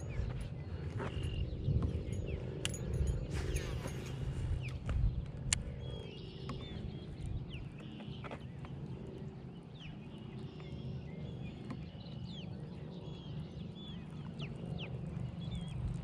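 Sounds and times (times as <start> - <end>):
birds chirping and whistling: 0.0 - 16.0
steady low rumble: 0.0 - 16.0.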